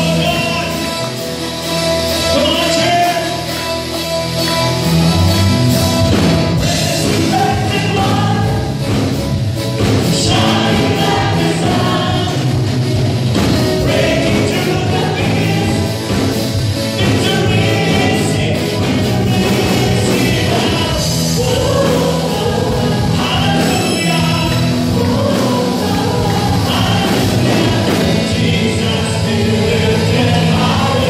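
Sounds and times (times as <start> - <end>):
worship band playing: 0.0 - 31.0
group singing: 4.4 - 9.2, 9.8 - 31.0.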